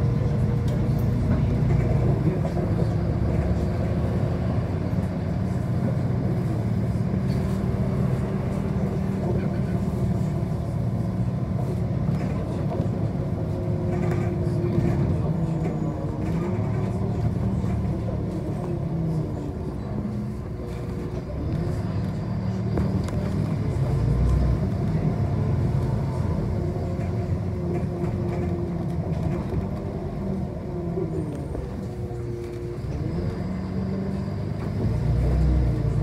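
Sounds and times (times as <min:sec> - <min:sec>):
bus drivetrain hum: 0:00.0 - 0:36.0.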